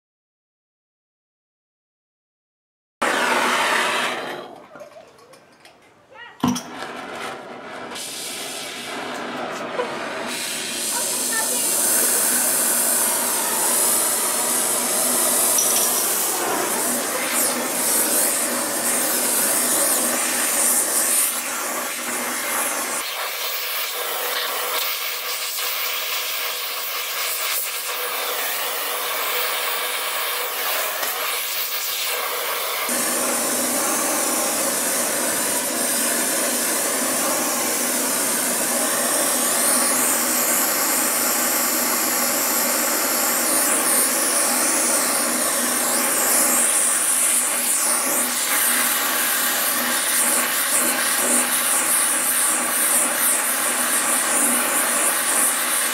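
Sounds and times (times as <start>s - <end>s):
gas torch flame hissing: 6.7s - 55.9s.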